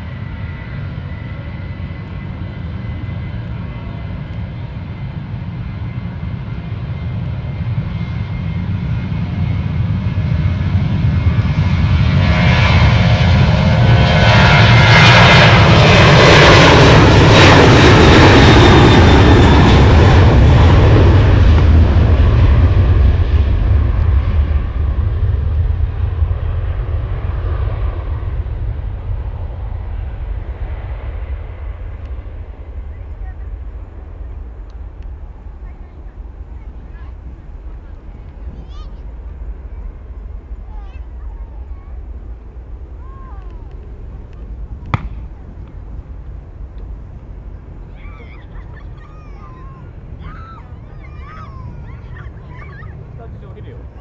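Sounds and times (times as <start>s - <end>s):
jet engines at takeoff: 0.0s - 54.0s.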